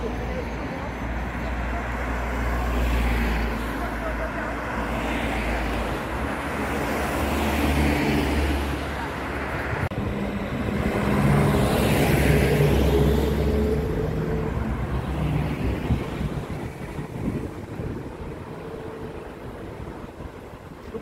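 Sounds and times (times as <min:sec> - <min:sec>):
cars passing: 0:00.0 - 0:21.0
hum of engines and tyres: 0:00.0 - 0:21.0.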